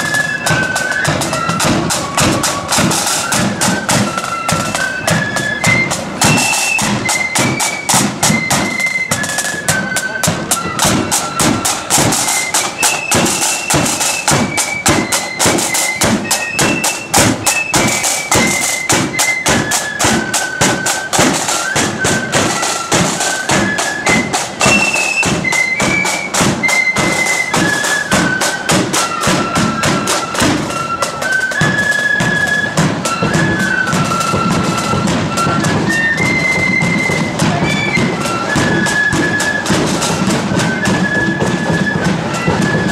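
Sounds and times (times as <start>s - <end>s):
flutes playing melody: 0.0s - 42.9s.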